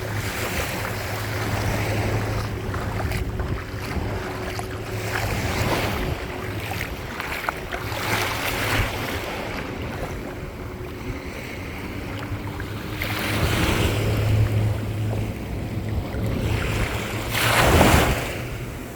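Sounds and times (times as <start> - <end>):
waves washing at shore: 0.0 - 18.9
wind rumbling on microphone: 0.0 - 18.9.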